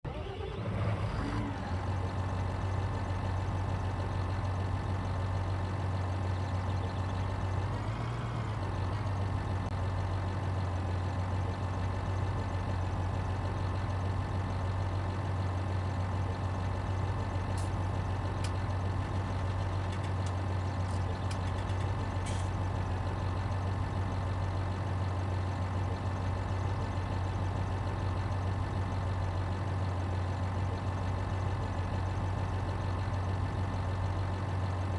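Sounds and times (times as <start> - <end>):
engine idling hum: 0.0 - 34.9.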